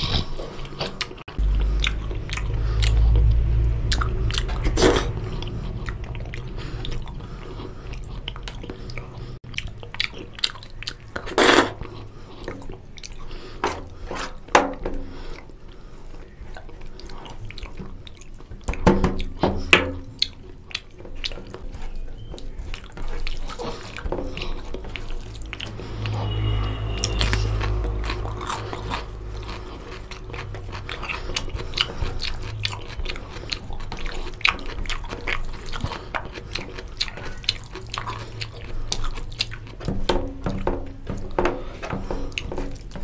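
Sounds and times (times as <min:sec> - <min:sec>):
wet chewing and biting: 0:00.0 - 0:43.0.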